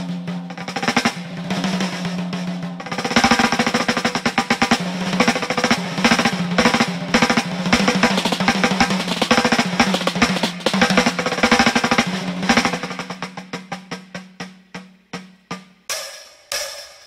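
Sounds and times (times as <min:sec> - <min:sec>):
fast busy drumming: 0:00.0 - 0:17.0.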